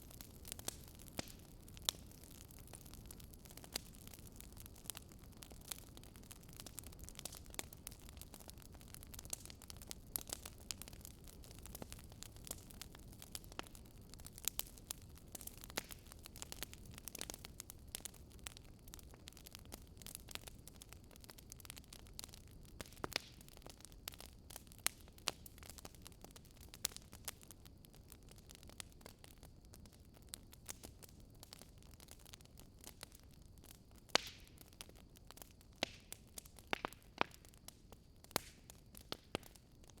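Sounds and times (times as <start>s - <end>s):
soft steady hiss: 0.0s - 40.0s
wood fire crackling: 0.0s - 40.0s.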